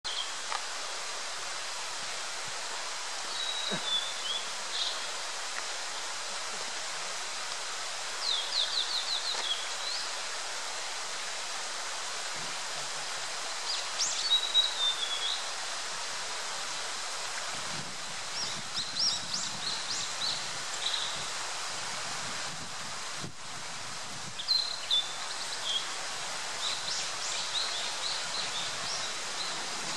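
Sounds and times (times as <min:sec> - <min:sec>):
steady background hiss: 0:00.1 - 0:29.9.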